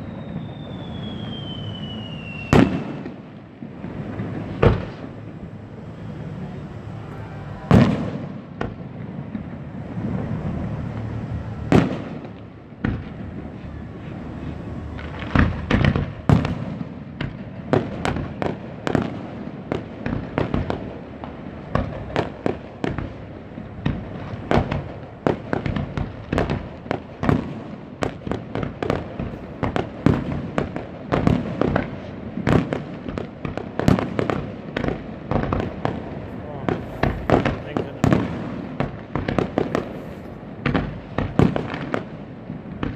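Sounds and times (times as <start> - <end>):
fireworks bursting: 0.0 - 42.9
rumbling echoes: 0.4 - 42.9.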